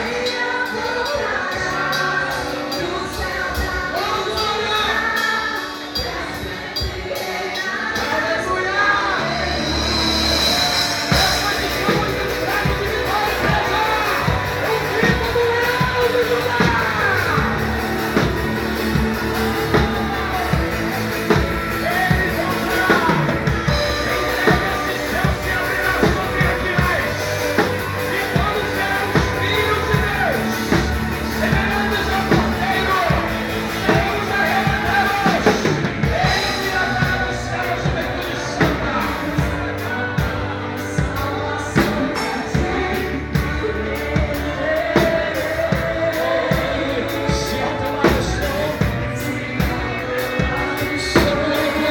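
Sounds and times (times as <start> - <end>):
drum kit beat: 0.0 - 51.9
live band playing: 0.0 - 51.9
voices singing: 0.0 - 51.9.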